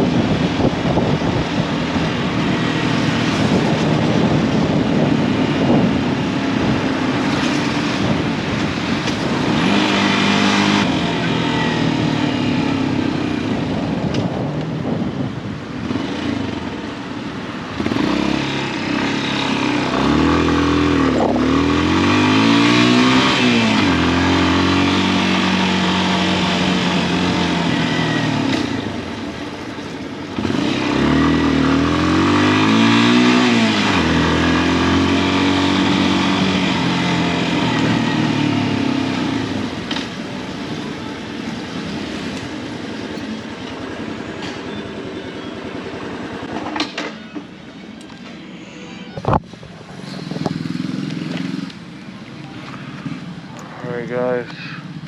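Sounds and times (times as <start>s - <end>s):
motorcycle engine accelerating: 0.1s - 47.0s, 49.3s - 55.0s.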